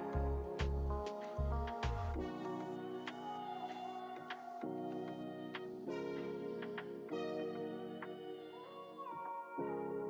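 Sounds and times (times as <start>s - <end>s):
melodic music with light beat: 0.0s - 10.0s.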